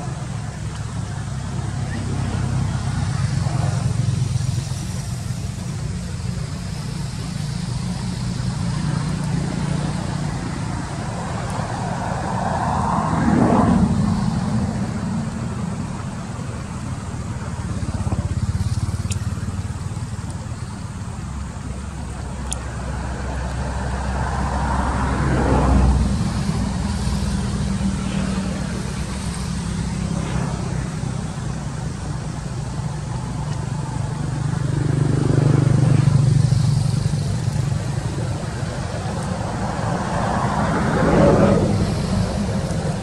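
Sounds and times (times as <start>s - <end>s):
steady engine hum: 0.0s - 43.0s
vehicles passing by: 0.0s - 43.0s.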